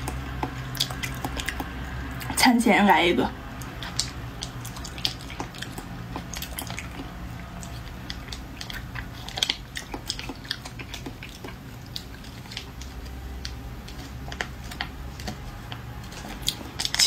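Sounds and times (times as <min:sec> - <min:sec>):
wet mouth clicks and smacks: 0:00.0 - 0:02.4, 0:03.5 - 0:17.0.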